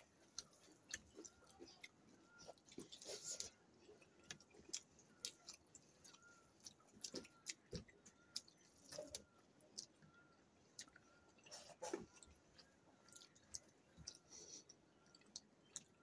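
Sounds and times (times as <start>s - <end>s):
chewing with lip smacks: 0.0s - 16.0s.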